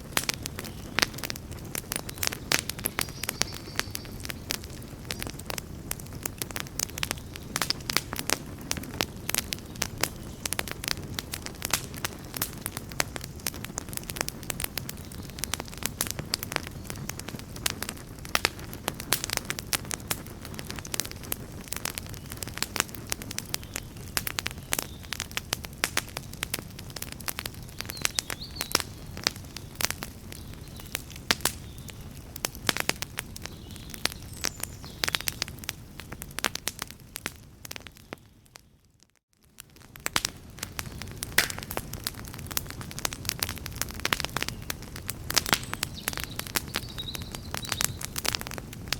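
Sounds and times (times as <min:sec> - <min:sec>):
campfire crackling and popping: 0:00.0 - 0:48.9
low rumble of flames: 0:00.0 - 0:48.9.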